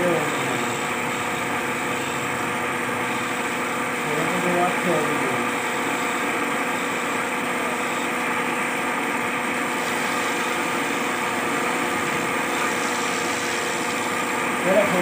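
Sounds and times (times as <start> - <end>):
chisel cutting spinning wood: 0.0 - 15.0
lathe motor humming: 0.0 - 15.0.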